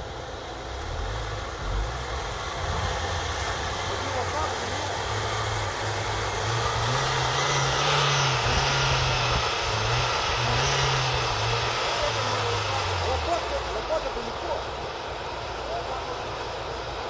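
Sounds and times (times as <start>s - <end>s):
vehicle engine revving: 0.0s - 16.8s.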